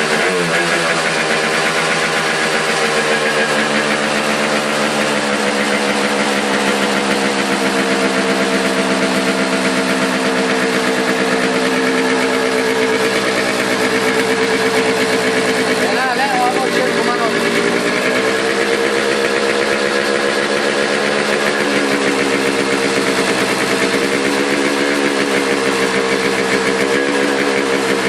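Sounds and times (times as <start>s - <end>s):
two-stroke engine idling: 0.0s - 28.0s.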